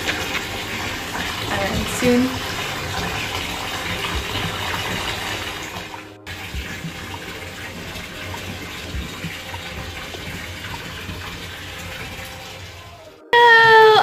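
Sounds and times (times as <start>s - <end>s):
water pouring into bathtub: 0.0s - 13.9s.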